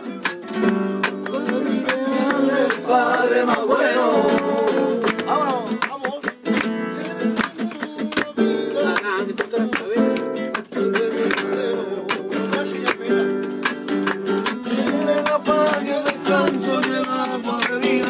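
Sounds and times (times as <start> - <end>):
person singing: 0.0 - 6.4, 7.0 - 13.6, 14.7 - 18.0
flamenco guitar strumming: 0.0 - 18.0.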